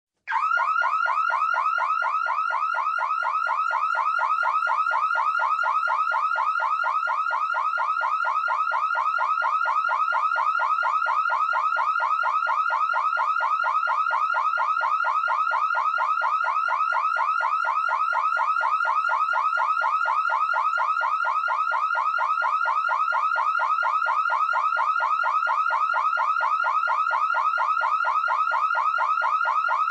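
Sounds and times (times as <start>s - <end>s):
car alarm siren whooping: 0.3s - 29.9s.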